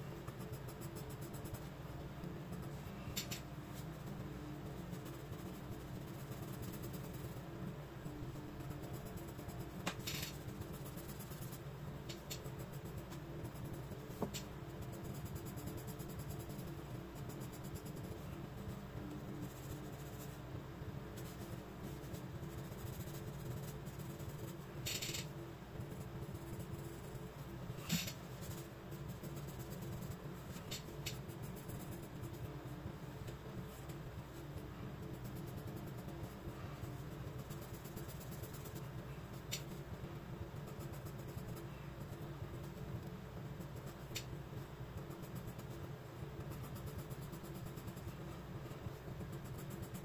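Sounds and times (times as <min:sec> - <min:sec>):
pencil scratching on paper: 0:02.5 - 0:07.4, 0:08.3 - 0:20.5, 0:21.1 - 0:25.2, 0:25.9 - 0:32.5, 0:33.2 - 0:39.9, 0:40.5 - 0:44.2, 0:46.4 - 0:50.0.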